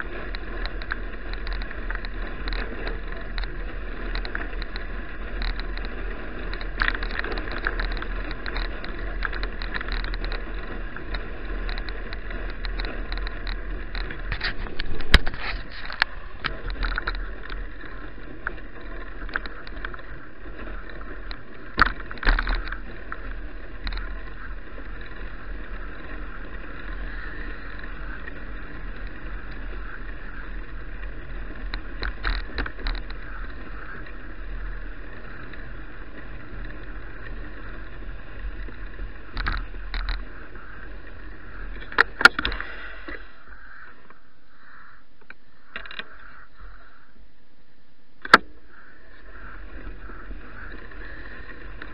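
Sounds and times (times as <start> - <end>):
bicycle rolling: 0.0 - 51.9
wind: 0.0 - 51.9.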